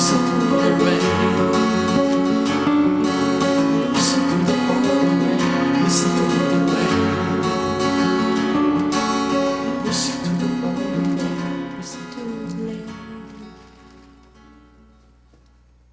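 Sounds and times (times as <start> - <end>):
acoustic guitar picking: 0.0 - 15.7.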